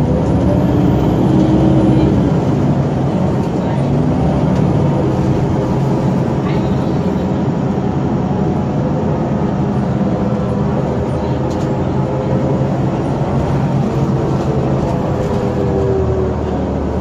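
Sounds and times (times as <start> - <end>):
bus diesel engine running: 0.0 - 17.0
road and cabin rumble: 0.0 - 17.0.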